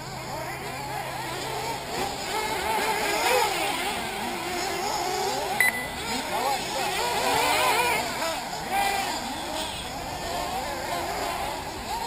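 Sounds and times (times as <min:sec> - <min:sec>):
rc car engines revving: 0:00.0 - 0:12.0.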